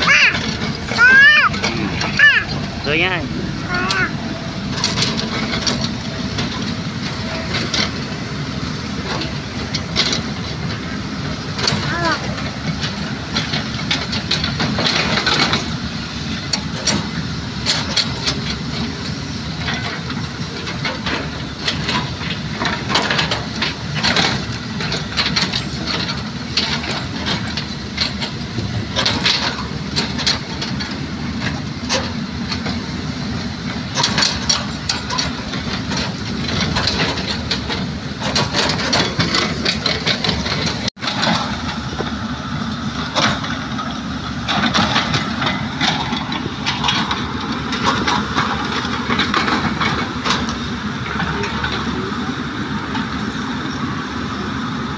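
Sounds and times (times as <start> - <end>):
excavators running: 0.0 - 54.9.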